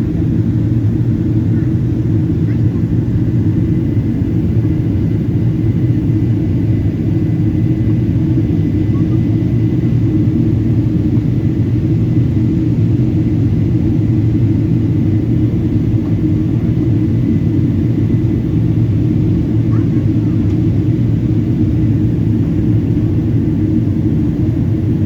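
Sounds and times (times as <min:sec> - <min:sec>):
airplane cabin engine rumble: 0:00.0 - 0:25.0.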